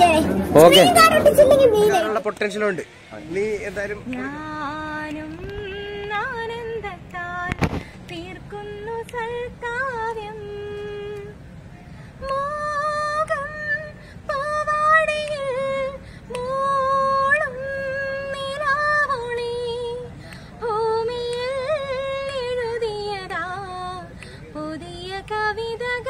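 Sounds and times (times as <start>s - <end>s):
woman singing with vibrato: 0.0s - 2.2s, 4.1s - 11.4s, 12.2s - 26.0s.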